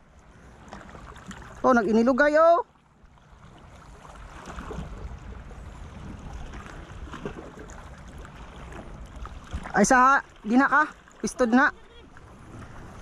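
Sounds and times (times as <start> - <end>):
waves lapping on rocky shore: 0.0 - 13.0.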